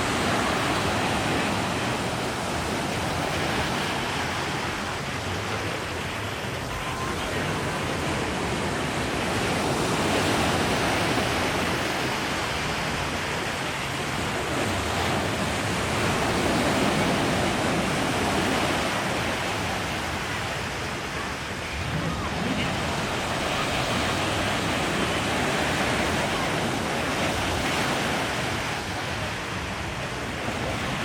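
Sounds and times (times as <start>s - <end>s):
surf breaking on sandy beach: 0.0s - 31.0s.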